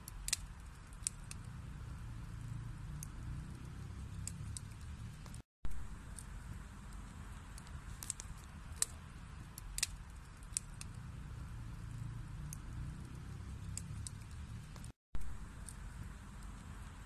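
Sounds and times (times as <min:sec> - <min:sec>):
fire low rumble: 0:00.0 - 0:17.0
wood fire crackling: 0:00.0 - 0:17.0.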